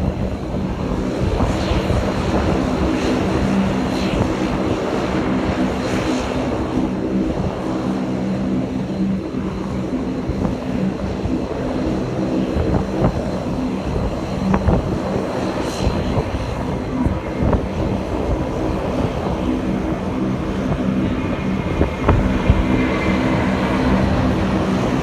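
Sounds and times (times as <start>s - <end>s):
aircraft engines droning: 0.0s - 25.0s
wind buffeting microphone: 0.0s - 25.0s.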